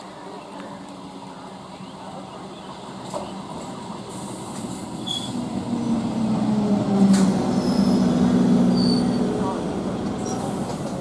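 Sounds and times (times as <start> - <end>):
electric train rumbling past: 1.0 - 11.0.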